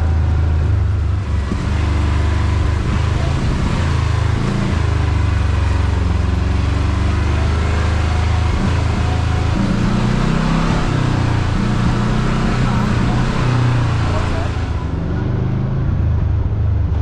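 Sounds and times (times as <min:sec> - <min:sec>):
road noise rushing: 0:00.0 - 0:17.0
vehicle engine running: 0:00.0 - 0:17.0.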